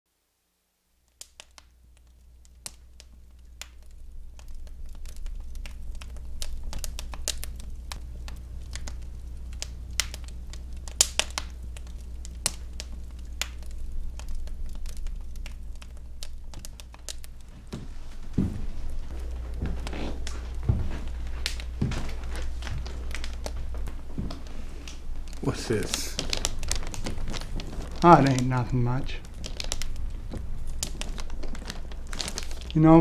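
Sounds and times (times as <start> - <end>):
wood fire crackling: 0.3 - 33.0
low hum: 1.8 - 33.0.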